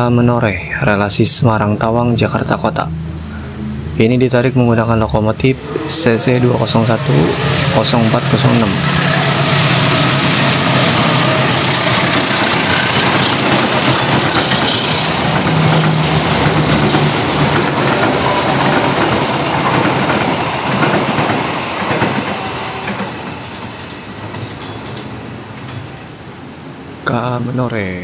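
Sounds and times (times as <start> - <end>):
train wheels on track: 1.0 - 27.0
locomotive engine: 1.5 - 27.0.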